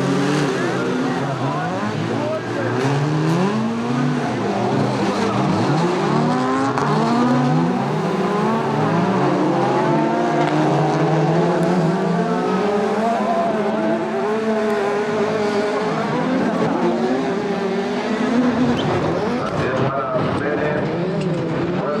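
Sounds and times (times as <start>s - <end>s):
race car engines at full throttle: 0.0s - 22.0s.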